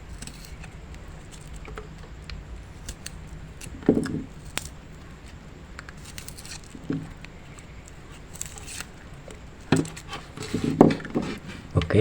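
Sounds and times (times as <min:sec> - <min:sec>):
dry skins scraping and tearing: 0:00.0 - 0:12.0.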